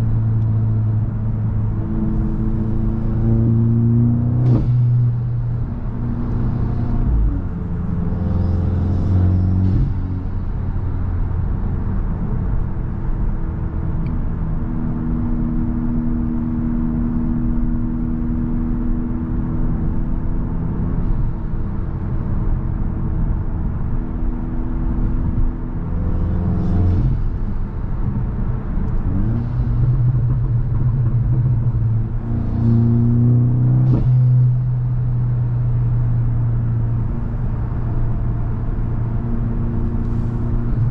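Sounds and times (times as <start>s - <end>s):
car engine and exhaust droning: 0.0s - 40.9s.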